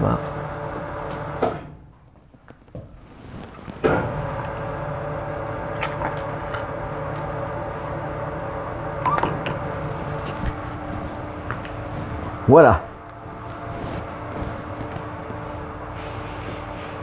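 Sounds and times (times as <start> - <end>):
ice cream machine humming: 0.0 - 2.0, 2.8 - 17.0.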